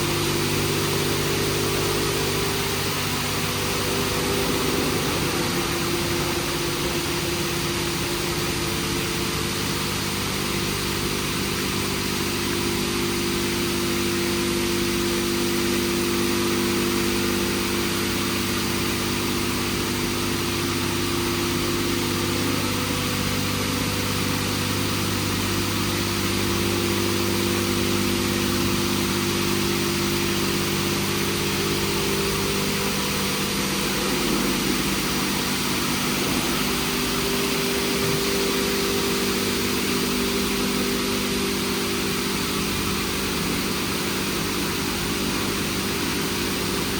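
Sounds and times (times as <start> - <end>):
pumps and motors humming: 0.0 - 46.9.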